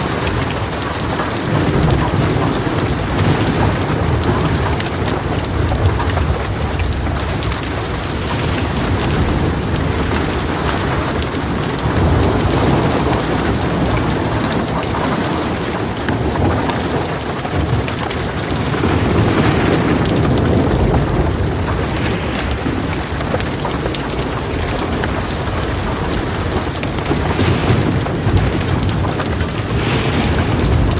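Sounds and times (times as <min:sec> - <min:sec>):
heavy rain on a metal roof: 0:00.0 - 0:30.9
thunder rumbling: 0:00.0 - 0:30.9.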